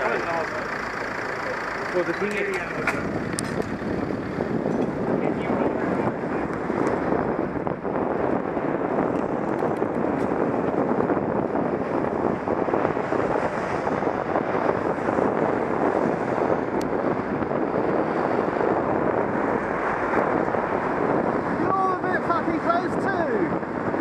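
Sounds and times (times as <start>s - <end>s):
road and traffic noise: 0.0s - 24.0s
wind rushing over microphone: 1.9s - 24.0s.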